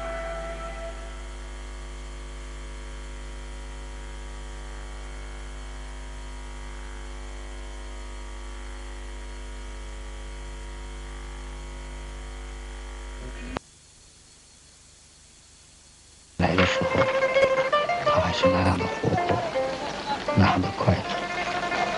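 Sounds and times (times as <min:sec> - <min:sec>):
electrical mains hum with hiss: 0:00.0 - 0:21.9.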